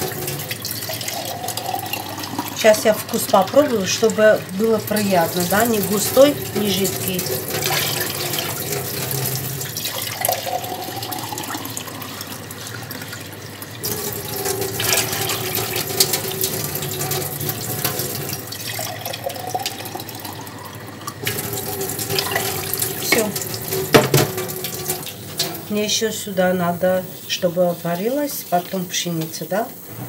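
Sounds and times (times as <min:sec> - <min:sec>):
water pouring into pot: 0:00.0 - 0:29.9.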